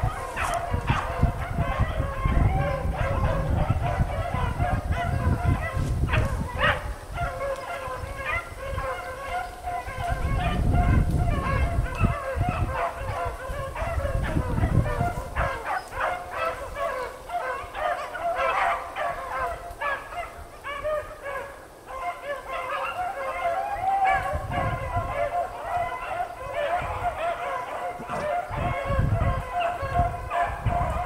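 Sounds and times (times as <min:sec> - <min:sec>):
dogs baying: 0:00.0 - 0:31.0.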